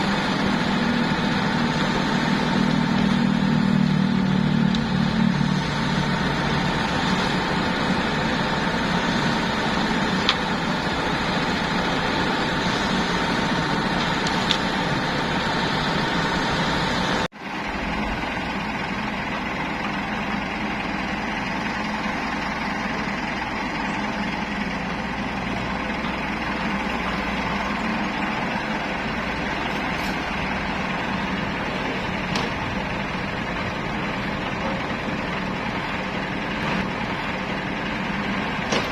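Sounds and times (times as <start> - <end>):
diesel engines running: 0.0 - 38.9
steady whine: 0.0 - 38.9.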